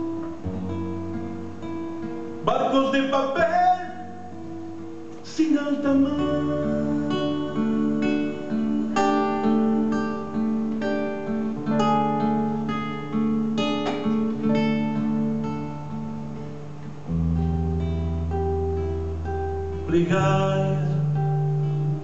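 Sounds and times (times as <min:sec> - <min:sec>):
fingerpicked acoustic guitar: 0:00.0 - 0:22.0.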